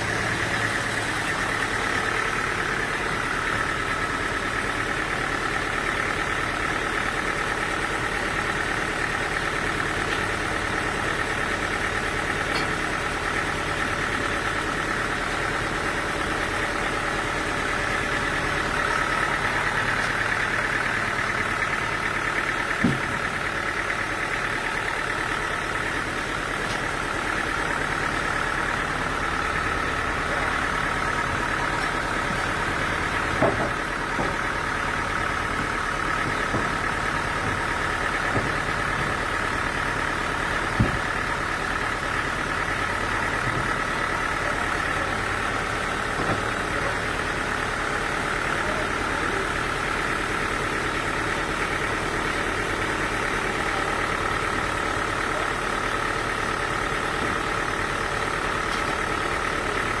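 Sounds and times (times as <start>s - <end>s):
engine running steadily: 0.0s - 60.0s.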